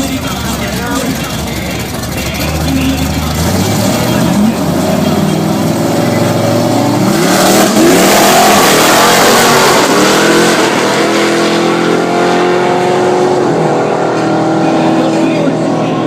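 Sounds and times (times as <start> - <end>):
drag racing cars accelerating: 0.0 - 16.0.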